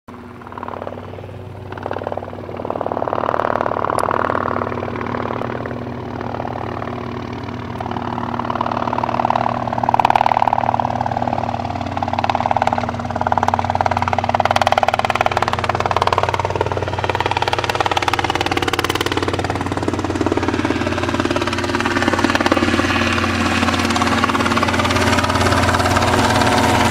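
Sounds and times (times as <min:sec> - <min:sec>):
helicopter engine and rotor drone: 0:00.1 - 0:26.9
low hum: 0:00.1 - 0:26.9.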